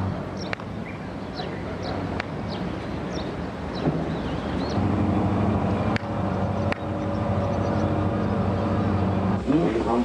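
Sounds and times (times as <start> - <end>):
low engine hum: 0.0 - 10.0
small birds chirping: 0.0 - 10.0.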